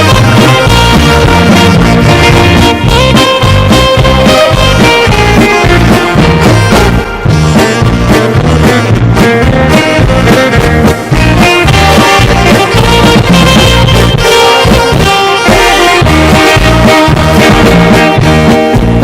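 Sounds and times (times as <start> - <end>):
drum kit beat: 0.0 - 19.0
electric guitar: 0.0 - 19.0
electronic keyboard: 0.0 - 19.0
saxophone melody: 0.0 - 19.0.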